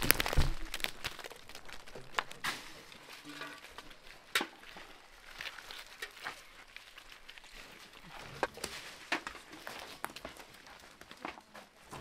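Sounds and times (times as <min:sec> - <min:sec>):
dry leaves and gravel rustling: 0:00.0 - 0:12.0.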